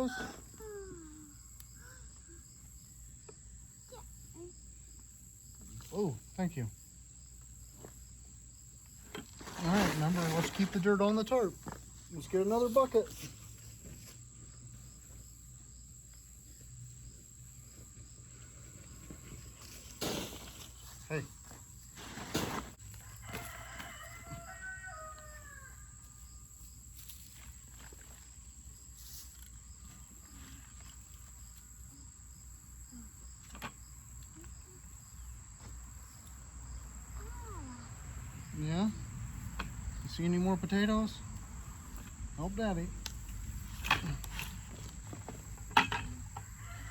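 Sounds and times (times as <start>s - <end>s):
cricket chirping: 0.0s - 22.2s, 22.8s - 46.9s.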